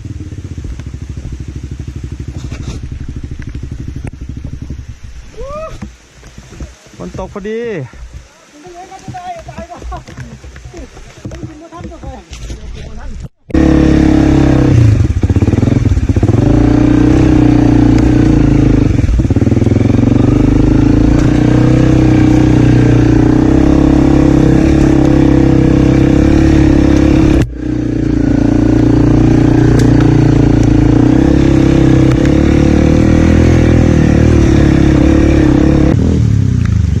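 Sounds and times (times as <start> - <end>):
dirt bike engine running: 0.0 - 5.3, 7.0 - 37.0.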